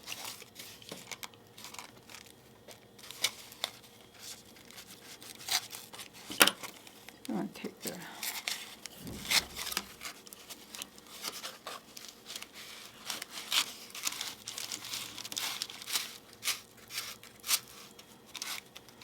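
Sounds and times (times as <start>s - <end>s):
cardboard scratching and crinkling: 0.0s - 6.3s, 8.4s - 19.0s.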